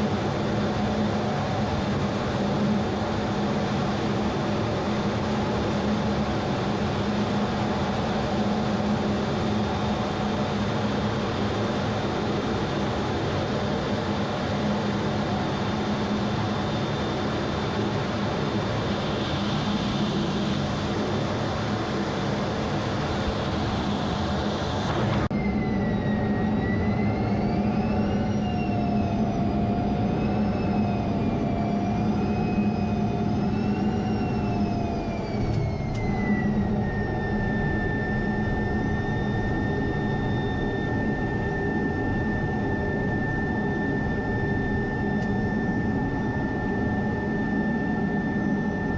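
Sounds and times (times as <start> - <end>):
high turbine whine: 0.0 - 48.9
jet engine humming: 0.0 - 48.9.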